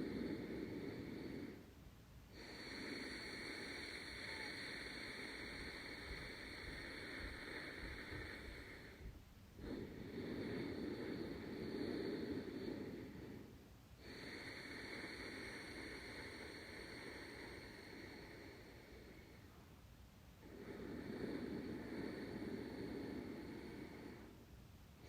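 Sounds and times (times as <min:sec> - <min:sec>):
slow audible breathing: 0:00.0 - 0:25.0.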